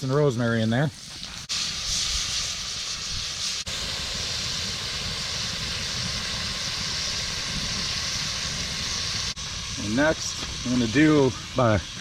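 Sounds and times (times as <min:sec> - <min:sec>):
food sizzling in a pan: 0:00.4 - 0:12.0.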